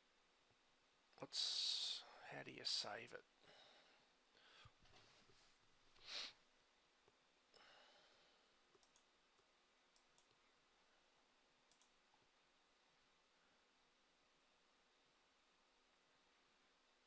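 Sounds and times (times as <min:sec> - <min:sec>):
soft hiss: 0:00.0 - 0:17.0.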